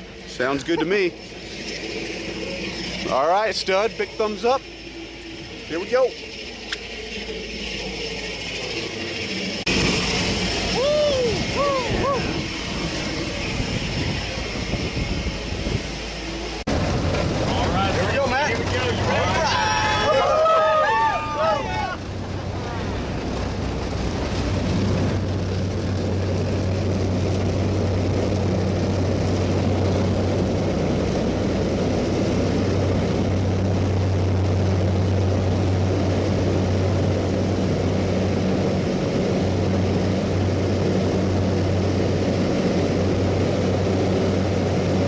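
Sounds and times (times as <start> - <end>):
propeller plane engine drone: 0.0 - 45.0.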